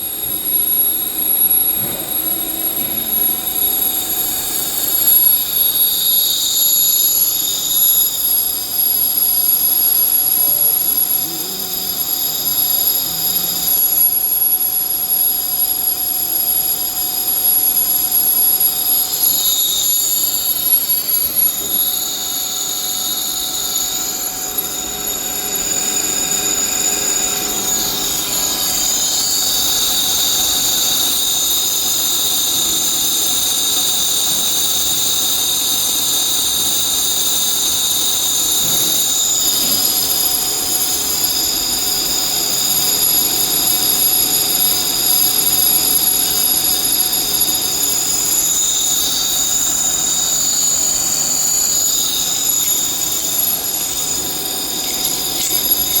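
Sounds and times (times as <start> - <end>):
machinery high-pitched whine: 0.0 - 56.0.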